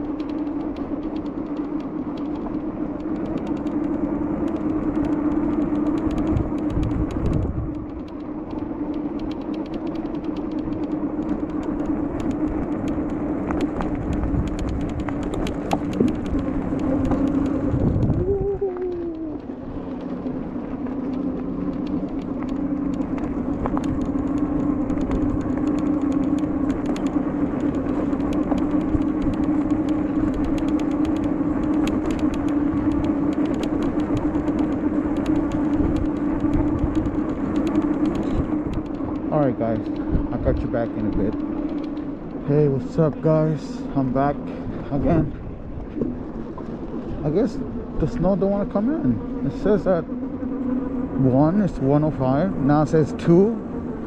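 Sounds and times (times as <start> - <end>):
road traffic passing: 0.0 - 54.0
wind buffeting microphone: 0.0 - 54.0.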